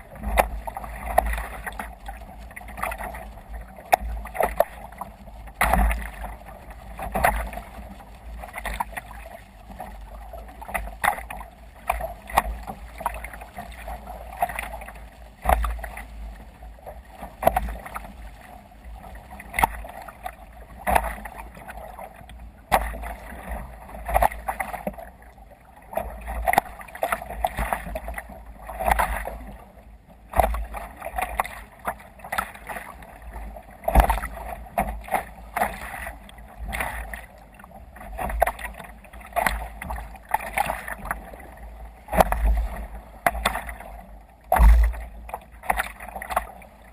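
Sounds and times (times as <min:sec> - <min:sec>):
water splashing against kayak hull: 0:00.0 - 0:46.9.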